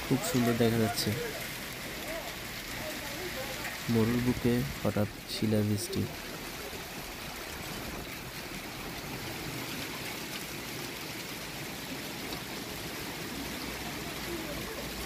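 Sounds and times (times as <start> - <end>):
heavy rain with hail: 0.0 - 15.0.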